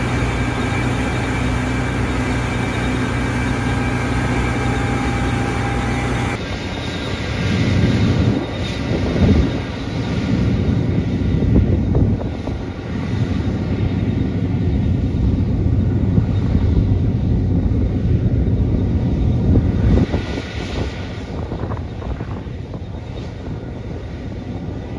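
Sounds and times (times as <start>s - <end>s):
combine harvester engine drone: 0.0s - 24.9s.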